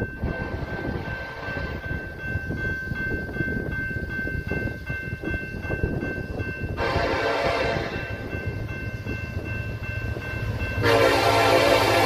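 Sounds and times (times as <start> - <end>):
crossing warning bell ringing: 0.0 - 12.0.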